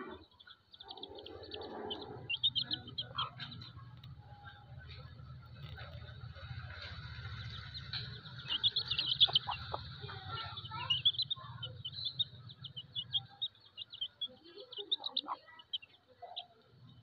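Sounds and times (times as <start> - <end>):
chick peeping: 0.0 - 17.0.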